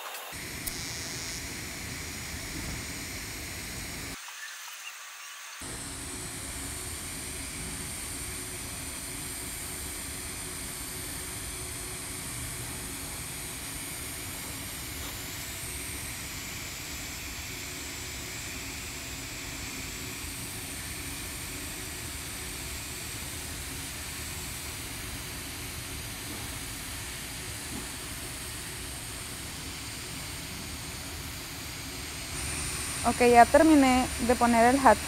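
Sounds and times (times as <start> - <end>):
welding arc hissing: 0.0 - 35.0.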